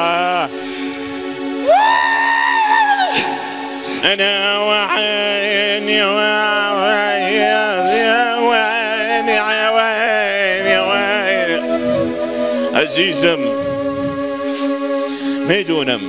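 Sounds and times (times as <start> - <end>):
man singing ornamented melody: 0.0 - 0.6, 2.8 - 15.8
backing music held notes: 3.1 - 16.0.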